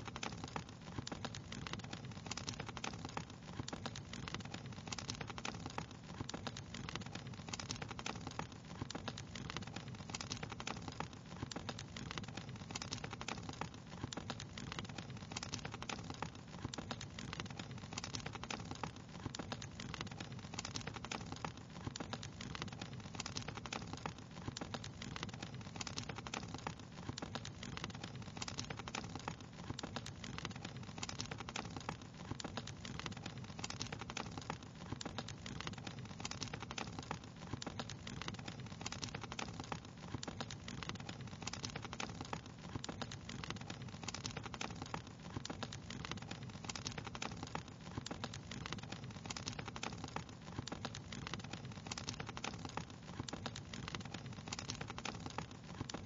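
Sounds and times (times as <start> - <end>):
wood fire crackling and popping: 0.0 - 56.0
low fire rumble: 0.2 - 56.0.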